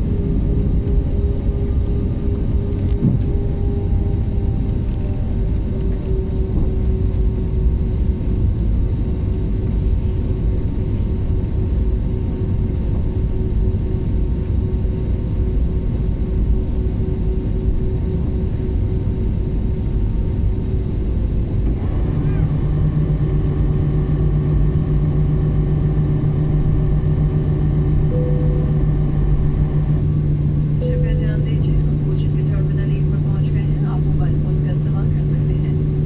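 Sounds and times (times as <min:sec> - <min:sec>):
engine droning tone: 0:00.0 - 0:15.1, 0:16.5 - 0:36.0
airliner cabin rumble: 0:00.0 - 0:36.0.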